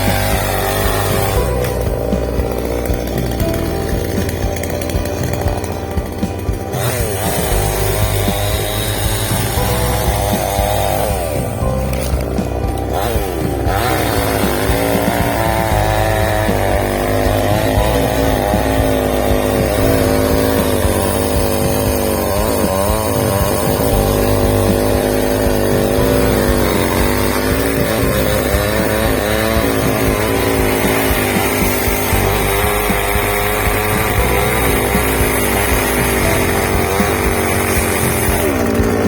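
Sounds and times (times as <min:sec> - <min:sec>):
chainsaw cutting under load: 0:00.0 - 0:39.0.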